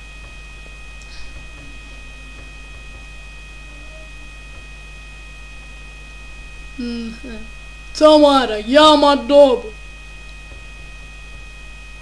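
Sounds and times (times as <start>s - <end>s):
electrical mains hum: 0.0s - 12.0s
faint high-pitched whine: 0.0s - 12.0s.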